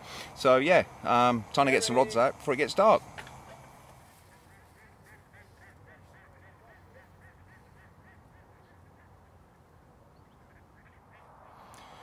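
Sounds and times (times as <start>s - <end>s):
distant waterbird calls: 0.0s - 12.0s.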